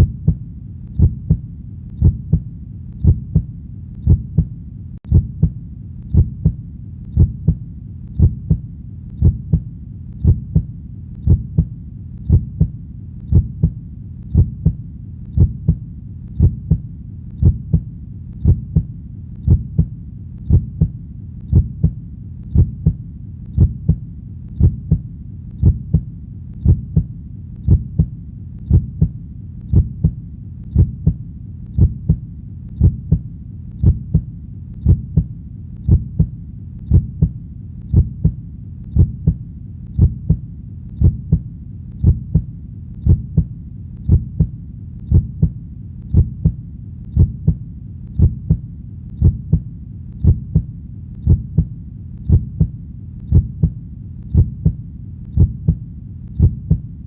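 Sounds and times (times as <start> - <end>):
faint low rumble: 0.0 - 57.0
heartbeat thumps: 0.0 - 57.0.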